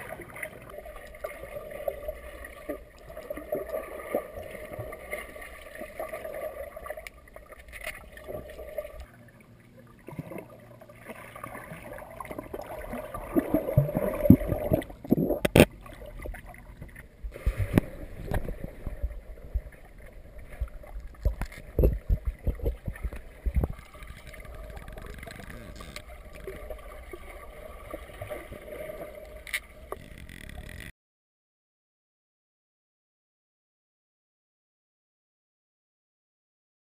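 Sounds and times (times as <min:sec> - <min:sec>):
water churning underwater: 0:00.0 - 0:30.9.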